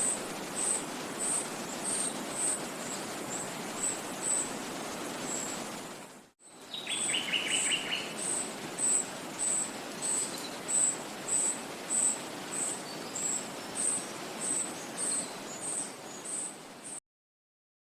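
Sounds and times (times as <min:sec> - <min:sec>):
forest background rush: 0:00.0 - 0:17.0.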